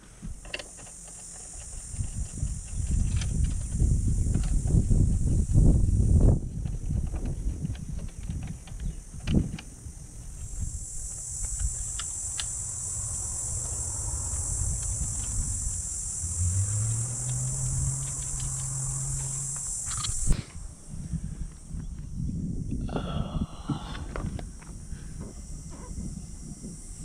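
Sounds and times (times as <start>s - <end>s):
insects buzzing: 0.0s - 27.0s
low hum: 0.3s - 27.0s.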